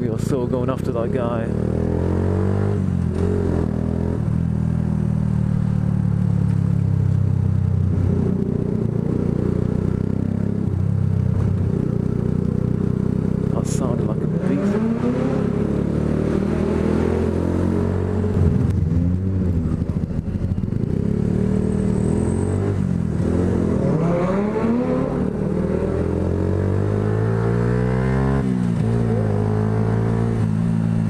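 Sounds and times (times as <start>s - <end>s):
motorcycle engine revving: 0.6s - 31.0s.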